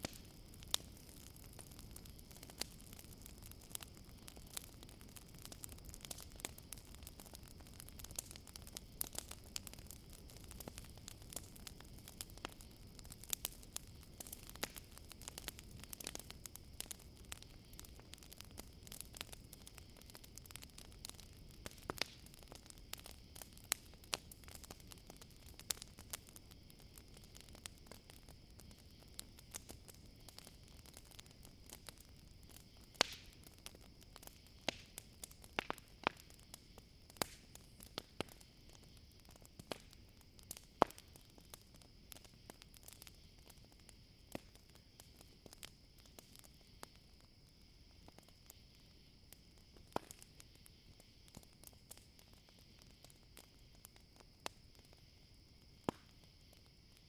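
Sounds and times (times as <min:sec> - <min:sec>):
campfire crackling: 0:00.0 - 0:57.0
crickets chirring: 0:00.1 - 0:57.0.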